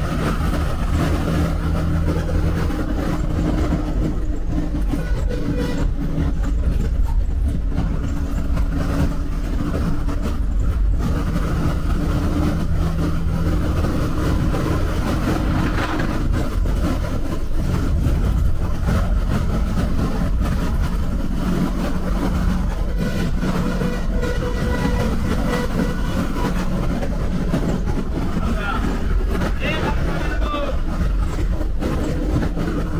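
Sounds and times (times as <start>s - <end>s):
bus engine drone: 0.0s - 32.9s
road rumble: 0.0s - 32.9s.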